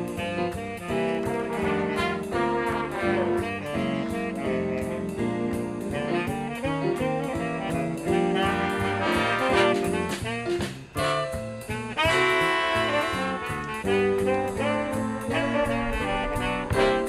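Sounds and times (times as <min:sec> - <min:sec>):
jazz big band playing swing: 0:00.0 - 0:17.0.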